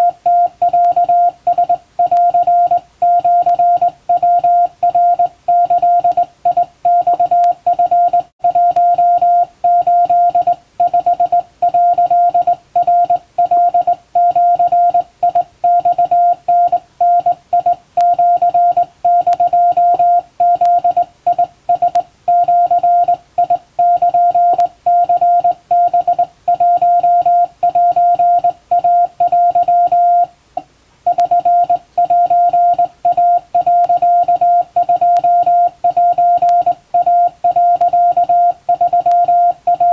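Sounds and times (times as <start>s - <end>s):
morse code tone keyed by hand: 0.0s - 30.3s, 31.1s - 39.9s.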